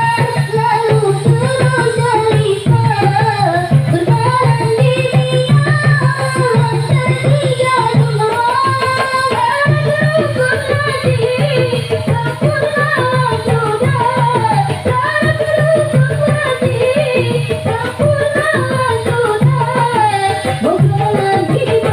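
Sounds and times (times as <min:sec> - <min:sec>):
quick hand-drum beats: 0:00.0 - 0:21.9.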